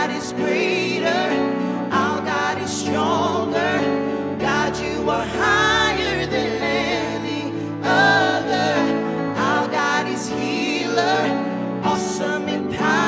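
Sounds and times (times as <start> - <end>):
backing singers: 0.0 - 13.0
woman singing lead vocal: 0.0 - 13.0.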